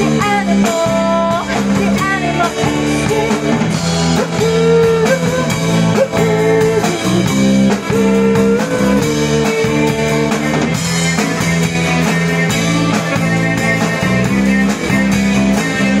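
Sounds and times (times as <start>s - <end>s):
drum kit: 0.0s - 16.0s
electric guitar: 0.0s - 16.0s.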